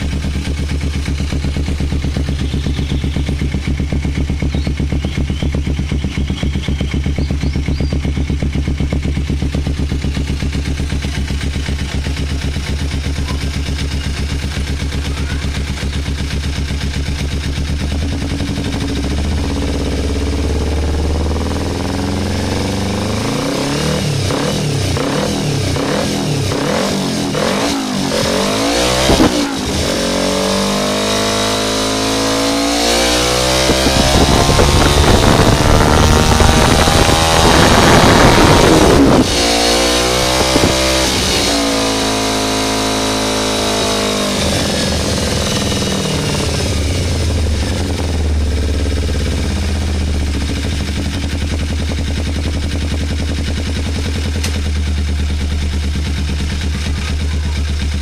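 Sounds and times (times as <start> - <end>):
exhaust crack: 0.0 - 30.4, 31.0 - 58.0
motorcycle engine idling and revving: 0.0 - 58.0.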